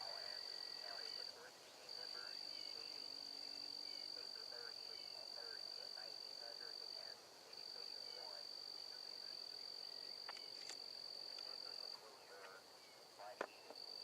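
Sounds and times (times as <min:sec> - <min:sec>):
faint chirps: 0:00.0 - 0:14.0.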